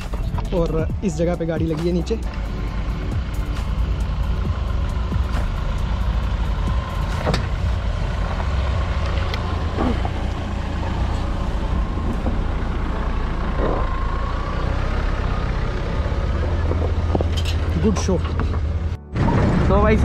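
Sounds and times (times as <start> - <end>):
jeep engine rumbling under load: 0.0 - 20.0.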